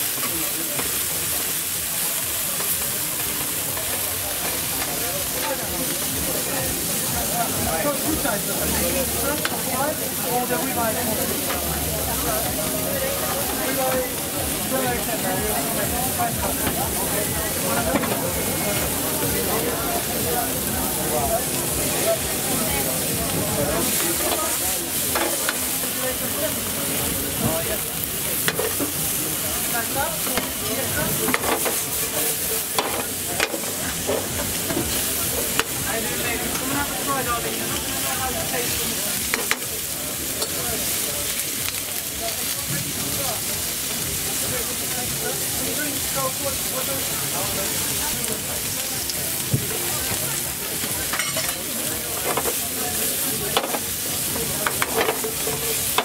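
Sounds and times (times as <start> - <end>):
food sizzling in a wok: 0.0 - 56.0.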